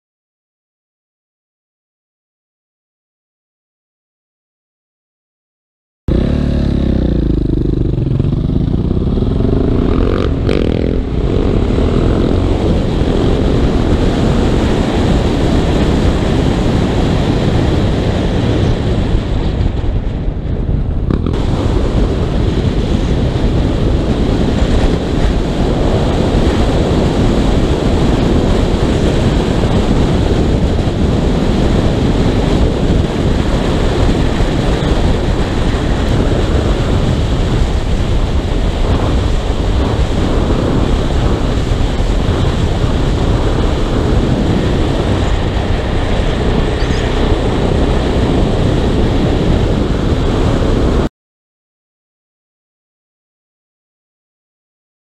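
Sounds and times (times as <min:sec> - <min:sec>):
motorcycle engine accelerating: 0:06.1 - 0:51.1
wind rush on microphone: 0:06.1 - 0:51.1.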